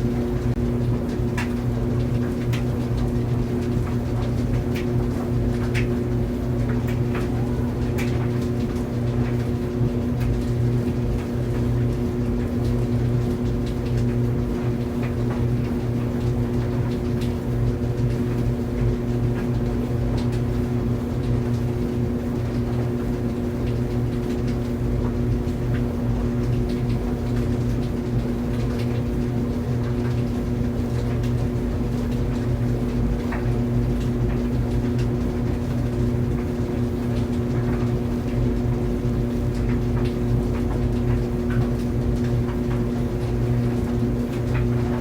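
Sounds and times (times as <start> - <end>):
clothes dryer running: 0.0 - 45.0.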